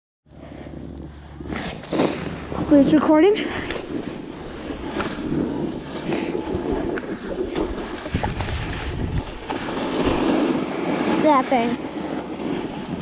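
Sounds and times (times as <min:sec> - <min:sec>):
snowboard scraping on snow: 0:00.3 - 0:13.0
wind buffeting microphone: 0:00.3 - 0:13.0.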